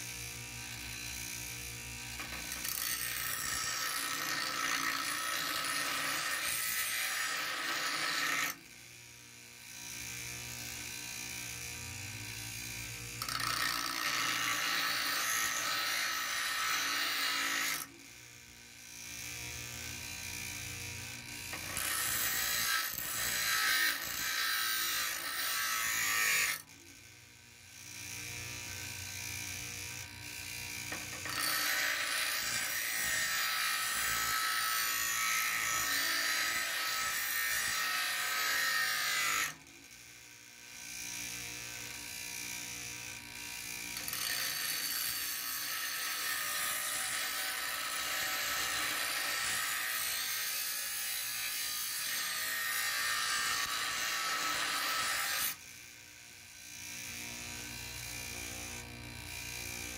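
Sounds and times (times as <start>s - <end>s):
bench grinder grinding steel: 0.0s - 59.9s
grinder motor hum: 0.0s - 59.9s.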